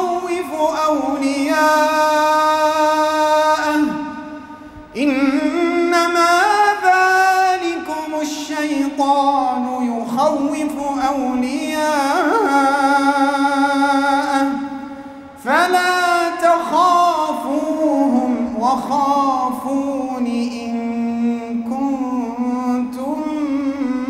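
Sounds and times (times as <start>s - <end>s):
man chanting through a microphone: 0.0s - 24.0s.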